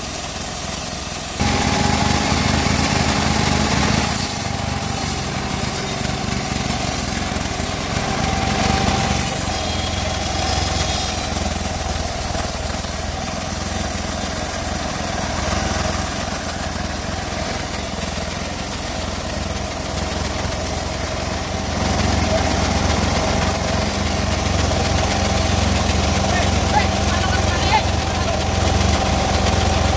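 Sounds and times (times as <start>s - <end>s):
log saw engine sawing wood: 0.0s - 29.9s.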